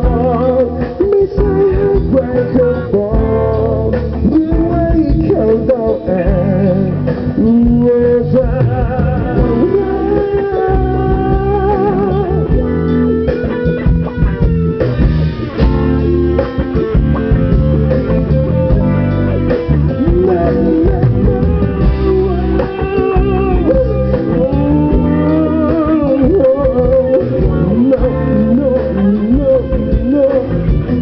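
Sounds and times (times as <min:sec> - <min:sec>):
bass and drums: 0:00.0 - 0:31.0
lead guitar melody: 0:00.0 - 0:31.0.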